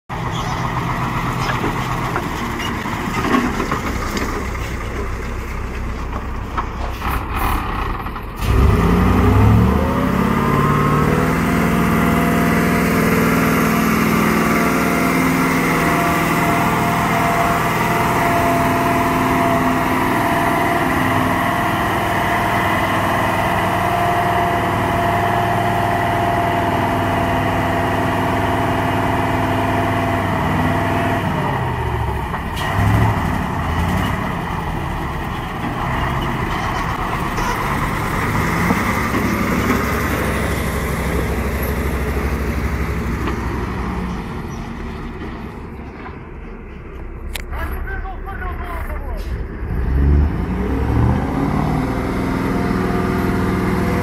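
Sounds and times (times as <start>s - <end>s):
diesel truck engine under load: 0.1s - 54.0s.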